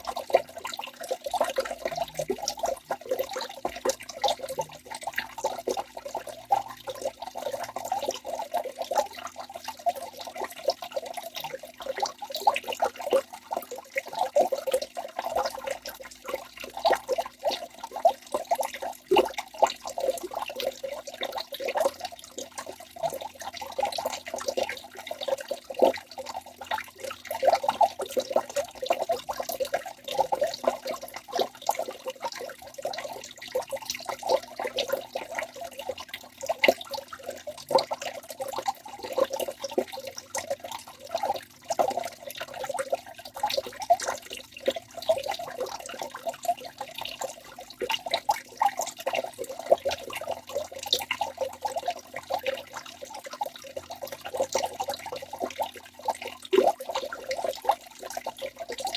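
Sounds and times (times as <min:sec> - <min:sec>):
water dripping and spattering: 0:00.0 - 0:58.9.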